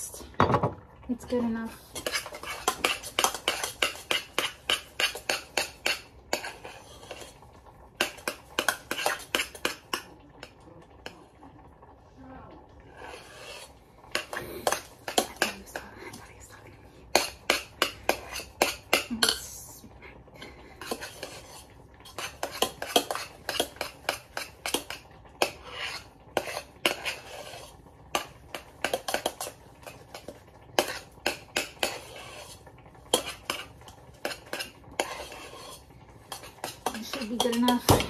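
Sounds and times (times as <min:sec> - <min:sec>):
spoon scraping a steel pot: 0:01.8 - 0:11.8, 0:12.8 - 0:16.2, 0:17.1 - 0:19.6, 0:20.4 - 0:38.0.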